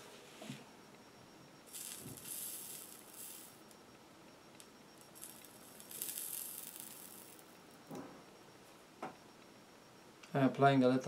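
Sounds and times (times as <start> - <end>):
solder flux sizzling and crackling: 0.2 - 10.3.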